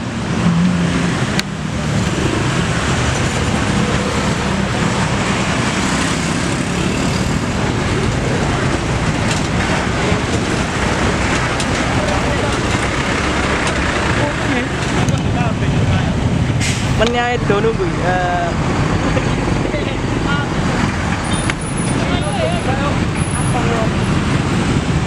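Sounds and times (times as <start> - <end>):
heavy road traffic passing: 0.0 - 25.0.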